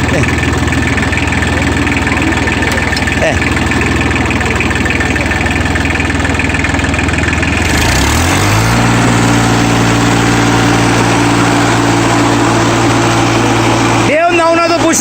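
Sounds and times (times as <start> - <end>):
tractor diesel engine revving: 0.0 - 15.0.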